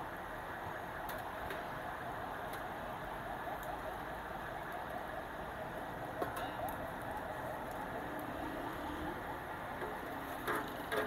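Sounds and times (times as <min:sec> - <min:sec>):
grill sizzling and crackling: 0:00.0 - 0:11.0.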